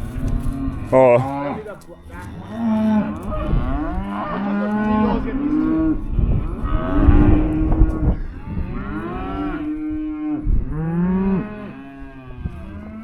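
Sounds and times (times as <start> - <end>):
cattle mooing: 0.0 - 13.0.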